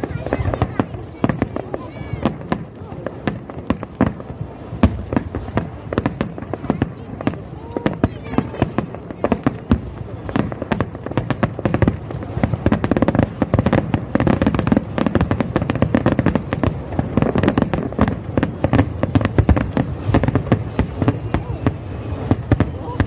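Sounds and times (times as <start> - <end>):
fireworks bangs and pops: 0.0 - 23.0.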